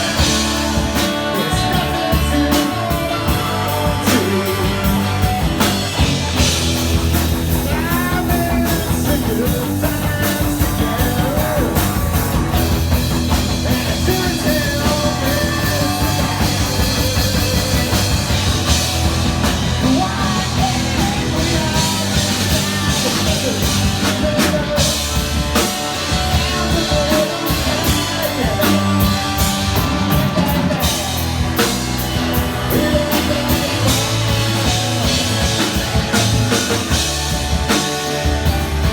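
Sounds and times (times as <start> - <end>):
person singing: 0.0 - 6.5, 7.2 - 38.9
rock band playing: 0.0 - 38.9.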